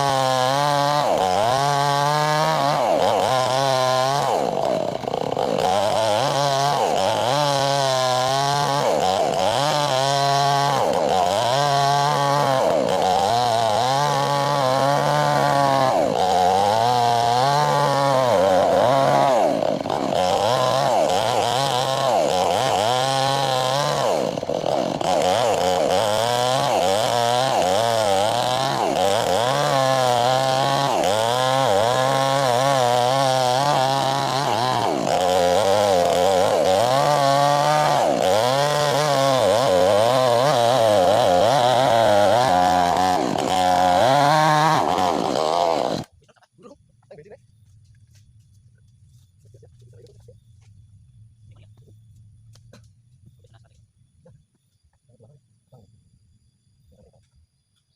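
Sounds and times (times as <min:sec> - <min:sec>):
chainsaw cutting log: 0:00.0 - 0:46.4.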